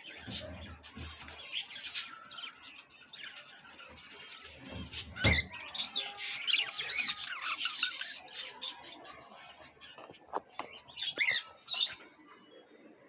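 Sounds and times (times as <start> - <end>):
caged birds chirping and squawking: 0.0 - 13.0.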